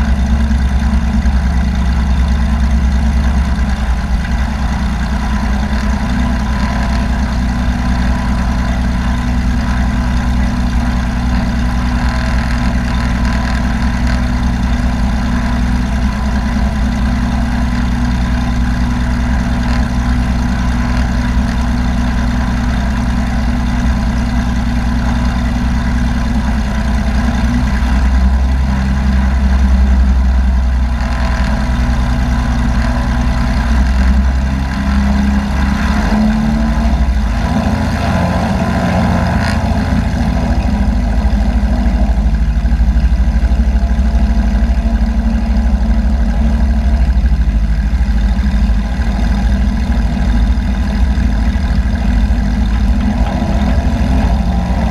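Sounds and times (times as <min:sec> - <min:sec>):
small airplane engine droning: 0:00.0 - 0:54.9.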